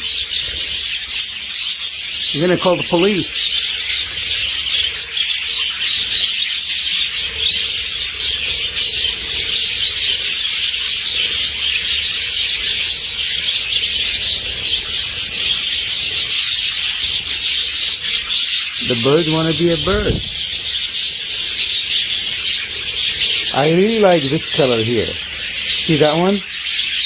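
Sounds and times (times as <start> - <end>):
budgerigars chattering: 0.0 - 27.0.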